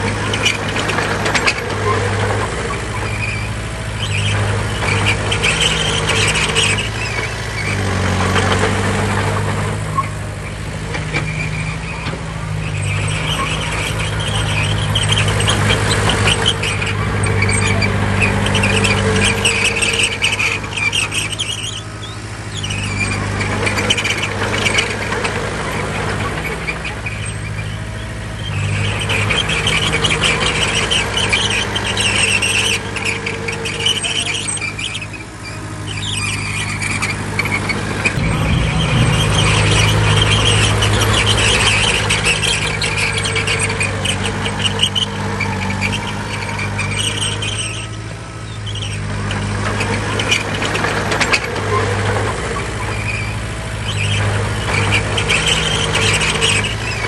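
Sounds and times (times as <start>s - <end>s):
bulldozer diesel engine running: 0.0s - 57.0s
steel crawler tracks squealing: 0.0s - 57.0s.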